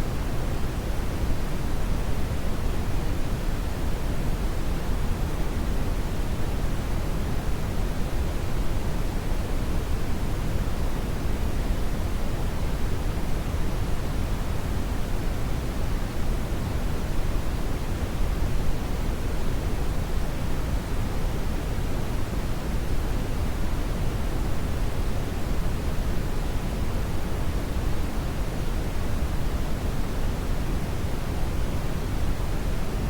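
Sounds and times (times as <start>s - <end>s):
brown noise hiss: 0.0s - 33.0s.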